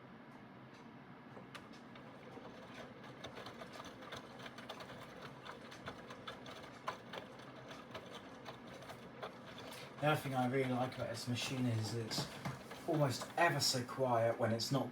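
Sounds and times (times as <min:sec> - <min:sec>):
washing machine motor hum: 0:00.0 - 0:14.9.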